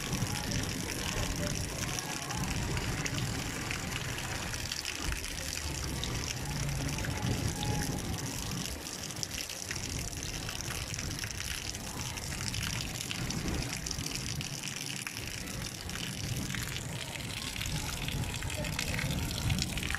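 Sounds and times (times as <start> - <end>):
flowing water: 0.0 - 19.9.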